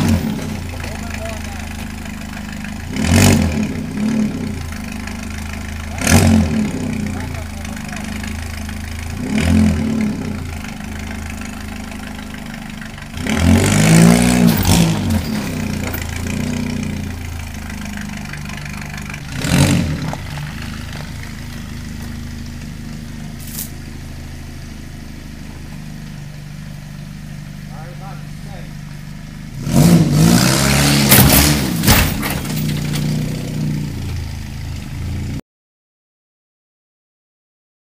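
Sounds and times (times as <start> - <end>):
engine idling and revving: 0.0 - 35.4.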